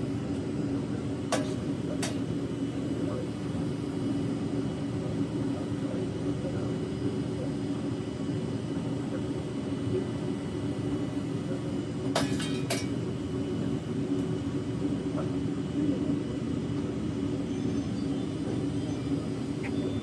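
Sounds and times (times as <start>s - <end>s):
furnace burner roaring: 0.0s - 20.0s.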